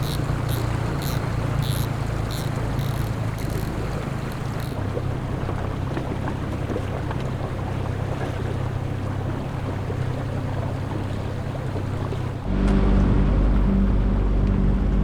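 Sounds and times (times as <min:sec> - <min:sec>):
wind buffeting microphone: 0:00.0 - 0:12.5
motorboat engine drone: 0:00.0 - 0:15.0
water noise: 0:00.0 - 0:15.0.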